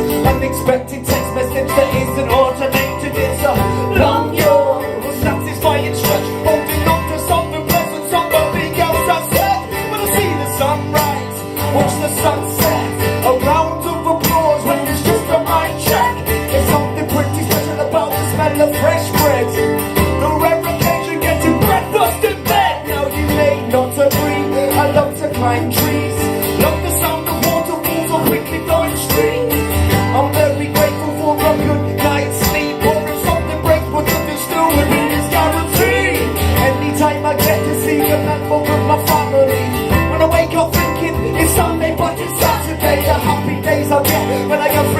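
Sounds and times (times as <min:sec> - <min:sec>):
bass notes: 0:00.0 - 0:44.9
guitars strumming: 0:00.0 - 0:44.9
live band playing: 0:00.0 - 0:44.9.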